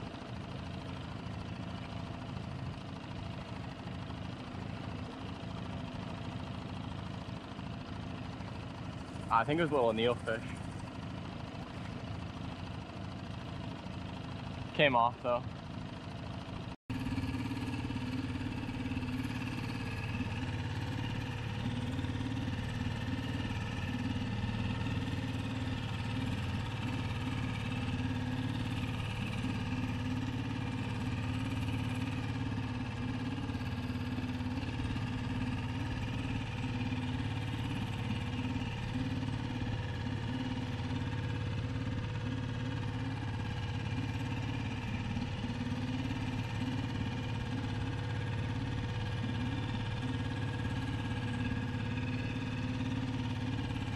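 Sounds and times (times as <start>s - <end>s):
outboard motor running: 0.0s - 53.9s.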